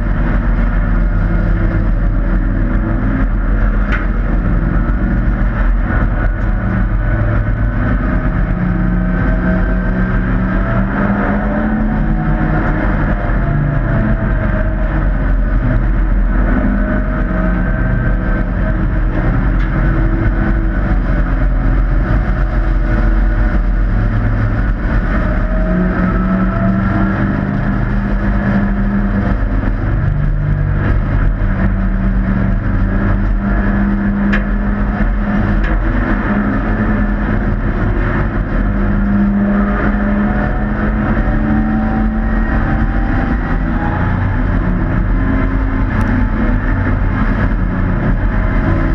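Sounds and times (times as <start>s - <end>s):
race truck engines passing: 0.0s - 48.9s.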